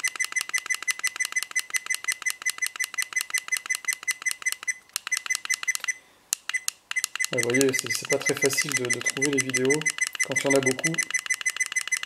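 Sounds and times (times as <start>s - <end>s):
short high beeps: 0.0s - 12.0s.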